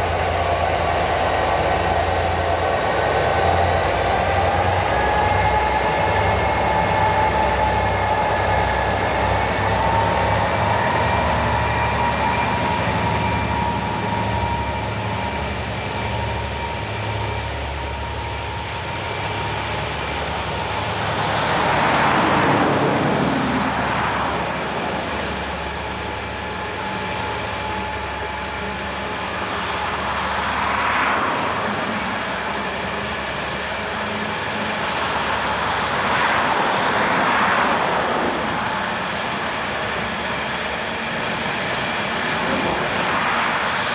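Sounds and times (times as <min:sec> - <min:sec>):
diesel freight train passing: 0:00.0 - 0:43.9
steady whine: 0:00.0 - 0:43.9.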